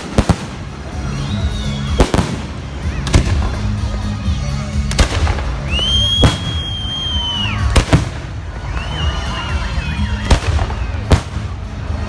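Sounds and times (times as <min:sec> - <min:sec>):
whistling fireworks: 0:00.0 - 0:03.4, 0:05.1 - 0:12.0.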